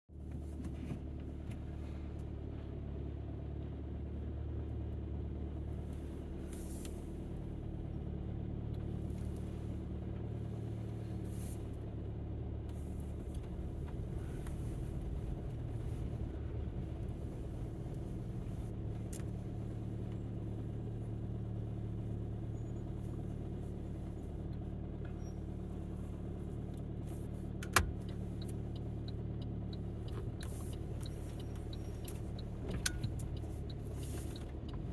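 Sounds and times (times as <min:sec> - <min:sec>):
car engine and road hum: 0:00.0 - 0:34.9.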